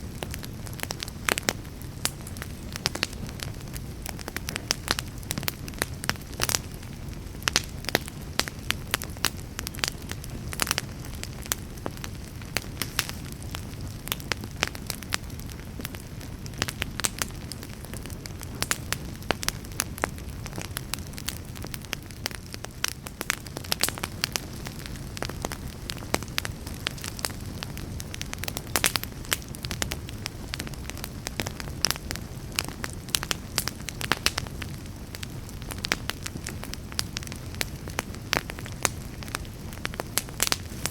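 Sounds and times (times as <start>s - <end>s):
fire crackling and popping: 0.0s - 40.9s
fire flames rumbling: 0.0s - 40.9s.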